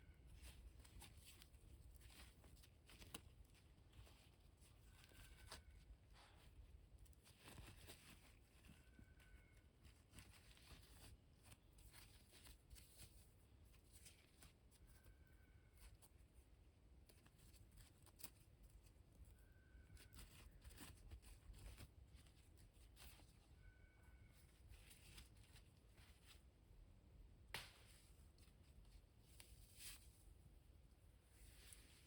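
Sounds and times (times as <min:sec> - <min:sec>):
small clicks and rustles: 0:00.0 - 0:26.7, 0:27.5 - 0:32.0.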